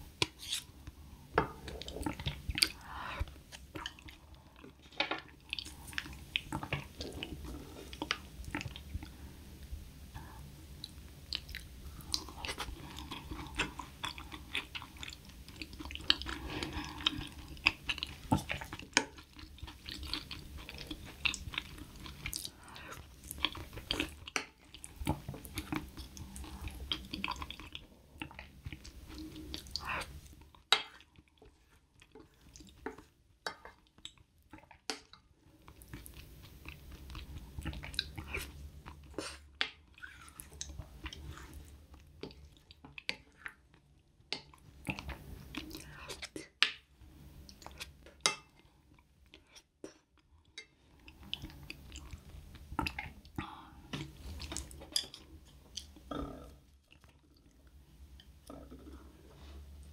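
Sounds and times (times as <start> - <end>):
wet chewing and swallowing: 0.2 - 59.9.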